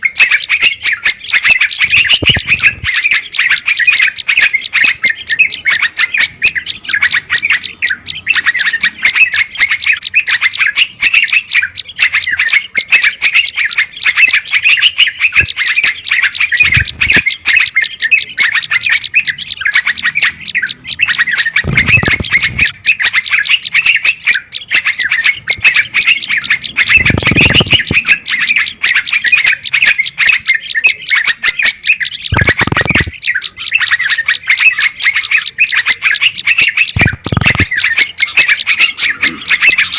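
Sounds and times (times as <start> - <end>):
songbird chatter: 0.0 - 39.9.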